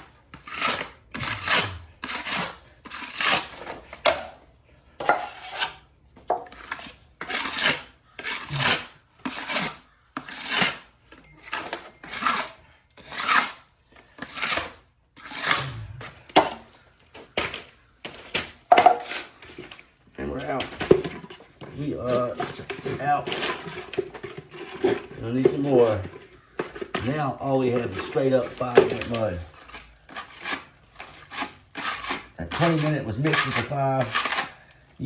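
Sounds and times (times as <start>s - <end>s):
trowel scraping plaster wall: 0.0s - 35.0s.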